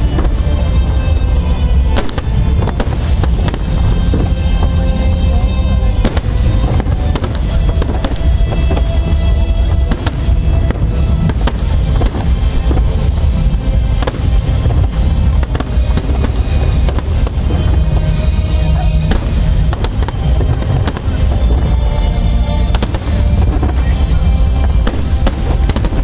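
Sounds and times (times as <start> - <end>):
deep rumble: 0.0 - 26.0
fireworks booming and cracking: 0.0 - 26.0
music playing: 0.0 - 26.0.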